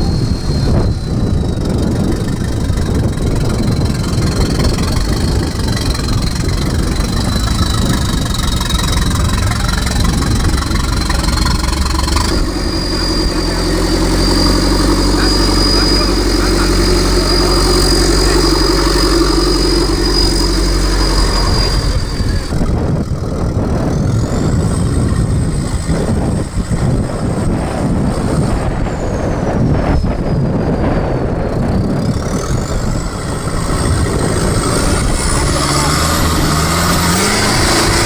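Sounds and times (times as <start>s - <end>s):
high whine with revs: 0.0s - 38.0s
off-road vehicle engine: 0.0s - 38.0s.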